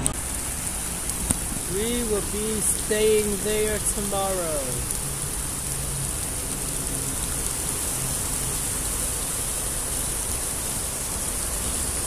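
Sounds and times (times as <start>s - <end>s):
fountain water jets splashing: 0.0s - 12.0s.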